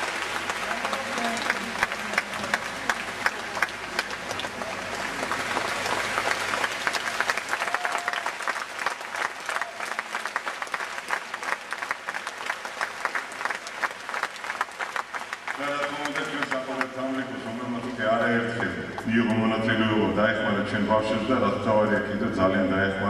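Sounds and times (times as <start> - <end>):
audience applauding: 0.0 - 19.1.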